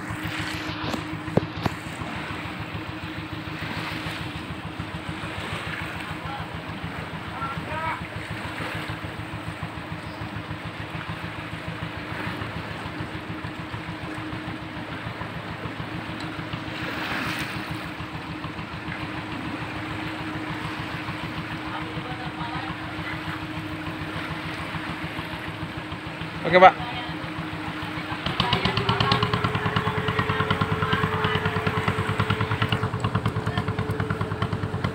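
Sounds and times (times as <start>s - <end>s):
small boat engine: 0.0s - 34.9s
water washing along hull: 0.0s - 34.9s.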